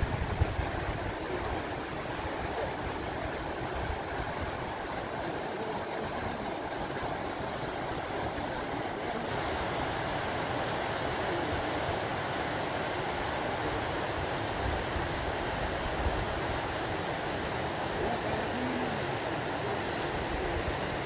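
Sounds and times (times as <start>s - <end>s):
river running over rocks: 0.0s - 21.0s.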